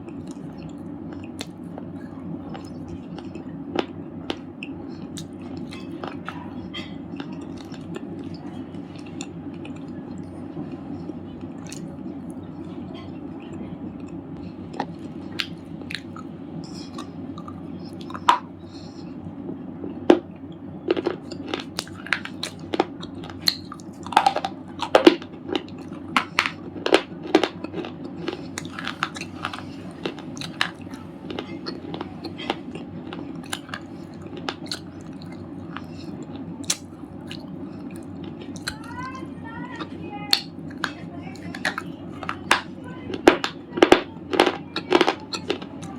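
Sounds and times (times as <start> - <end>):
crunchy chewing: 0.0 - 45.9
steady low hum: 0.0 - 45.9.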